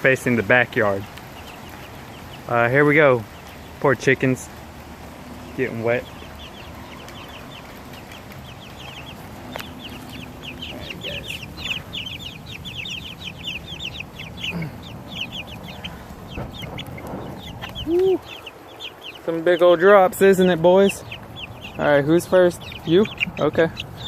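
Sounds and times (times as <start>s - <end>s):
chicks peeping: 0.0s - 24.0s.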